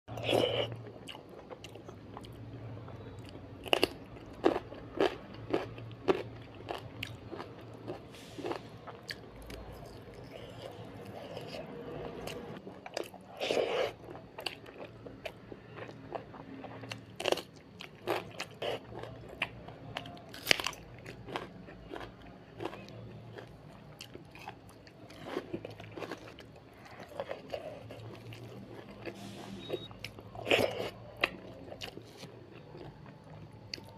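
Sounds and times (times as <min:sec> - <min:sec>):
person chewing crunchy food: 0:00.1 - 0:33.9.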